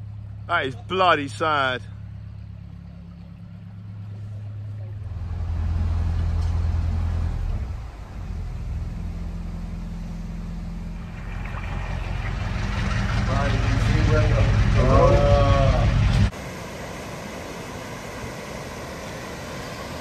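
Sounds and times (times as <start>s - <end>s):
boat diesel engine humming: 0.0s - 20.0s.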